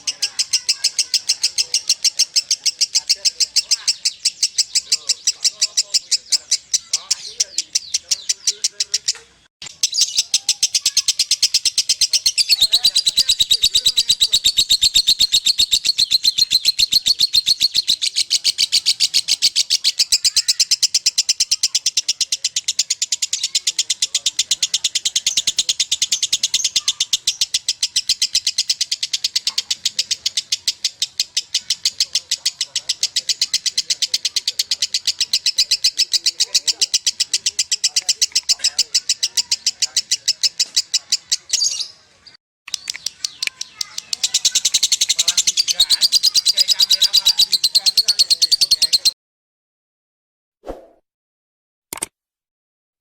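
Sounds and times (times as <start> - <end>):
lovebird chattering: 0.0 - 42.0, 42.7 - 49.2.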